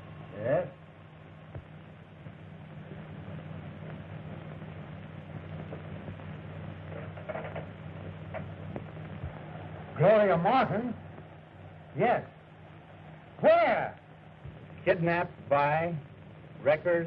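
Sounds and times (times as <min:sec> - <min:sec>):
film soundtrack hiss and hum: 0:00.0 - 0:17.0.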